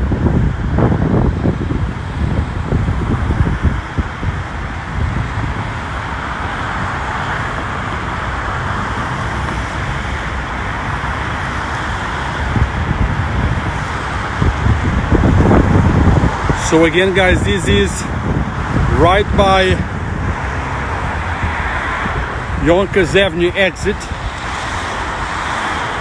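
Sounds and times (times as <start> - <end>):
road traffic noise: 0.0 - 26.0
wind buffeting microphone: 0.0 - 26.0.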